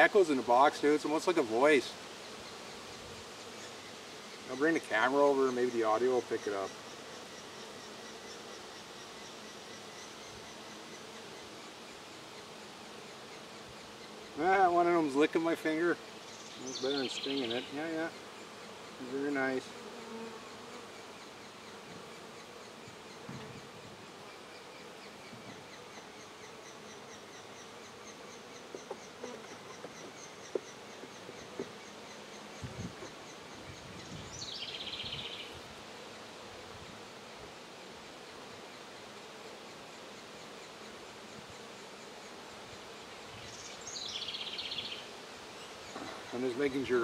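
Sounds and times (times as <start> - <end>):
bees buzzing in a hive: 0.0 - 47.0.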